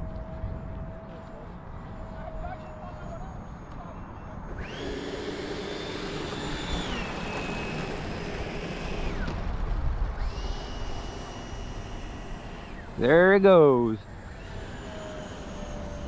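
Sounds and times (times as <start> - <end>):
model jet fans whining: 0.0 - 16.0.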